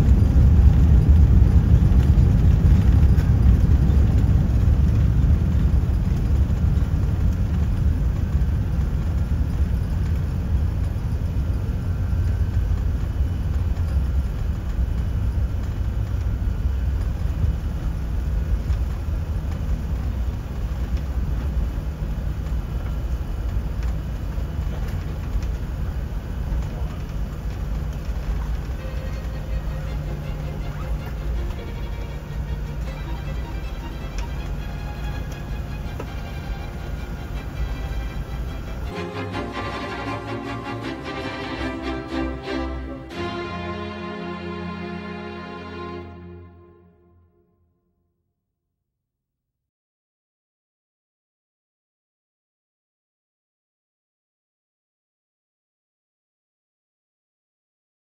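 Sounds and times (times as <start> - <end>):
aircraft decelerating rumble: 0.0 - 47.1
steady low hum: 0.0 - 47.5.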